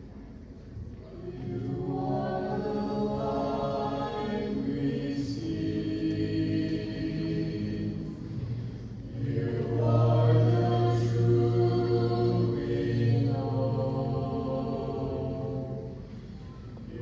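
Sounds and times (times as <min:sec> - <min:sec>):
a cappella group singing chords: 0:00.9 - 0:17.0.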